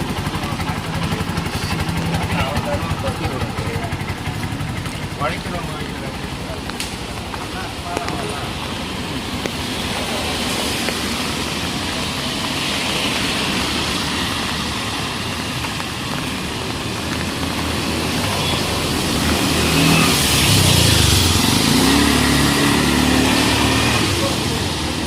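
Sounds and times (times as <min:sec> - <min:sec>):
nearby vehicle engine running: 0:00.0 - 0:25.0
traffic hiss: 0:04.9 - 0:25.0.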